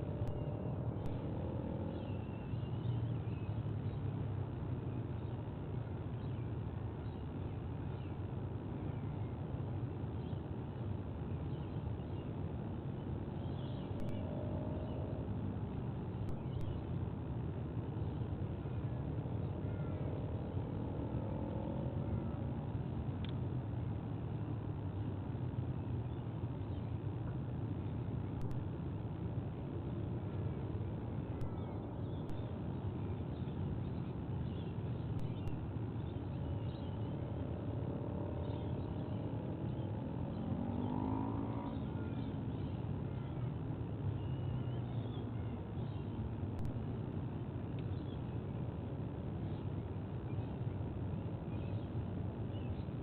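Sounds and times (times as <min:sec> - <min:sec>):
distant road traffic rumble: 0:00.0 - 0:53.0
vehicles passing: 0:00.0 - 0:53.0.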